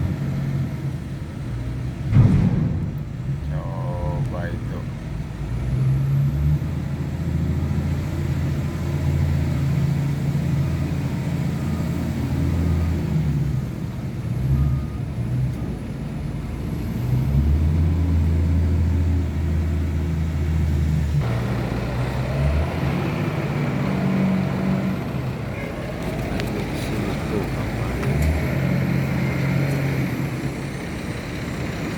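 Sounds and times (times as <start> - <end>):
truck engine drone: 0.0 - 31.9.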